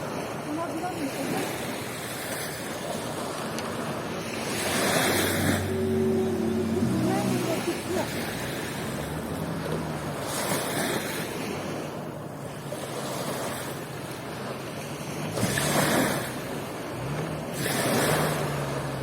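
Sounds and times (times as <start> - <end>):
waves washing onto beach: 0.0 - 19.0
low engine hum: 3.2 - 19.0.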